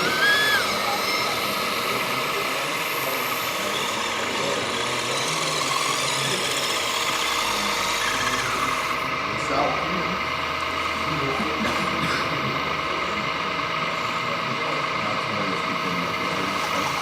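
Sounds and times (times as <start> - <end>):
model machinery motors whirring: 0.0 - 17.0.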